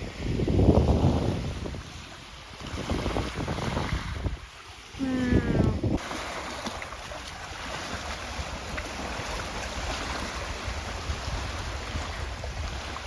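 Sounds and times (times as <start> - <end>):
wind rumble on microphone: 0.0 - 6.1, 7.6 - 13.0.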